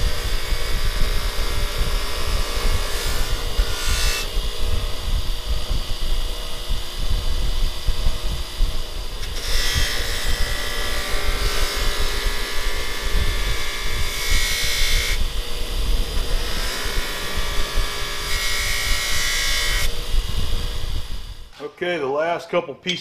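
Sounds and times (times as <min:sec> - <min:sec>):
grinder motor whine: 0:00.0 - 0:21.6.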